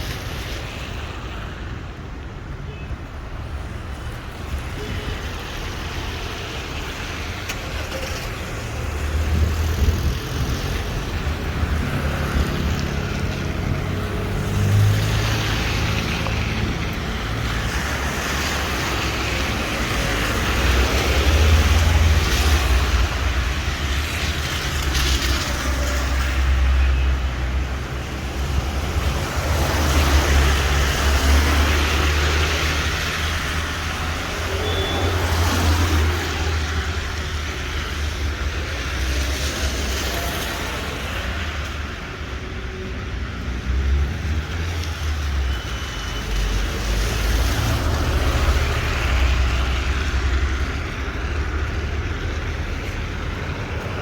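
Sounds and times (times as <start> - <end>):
tyres hissing on wet road: 0.0 - 2.3, 3.2 - 54.0
cars passing: 3.5 - 54.0.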